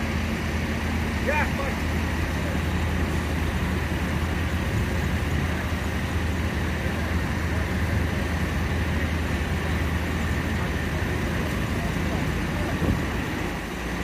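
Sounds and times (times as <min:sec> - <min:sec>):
tractor diesel engines running: 0:00.0 - 0:14.0.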